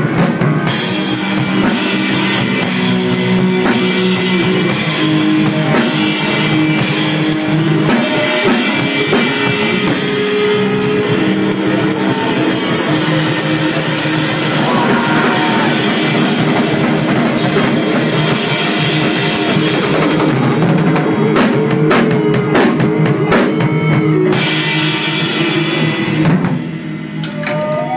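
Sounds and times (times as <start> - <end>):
rock band playing: 0.0 - 27.9.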